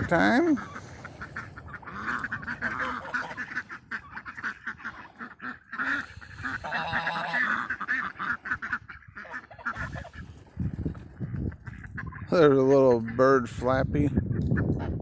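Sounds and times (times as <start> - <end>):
waterfowl honking and quacking: 0.0 - 15.0.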